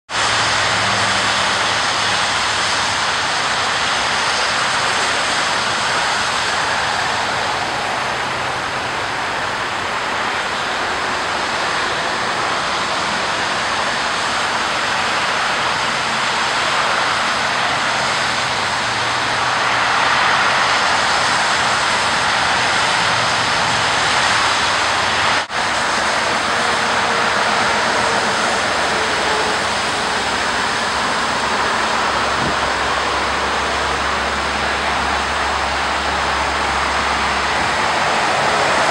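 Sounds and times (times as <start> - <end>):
creek water rushing: 0.1 - 38.9.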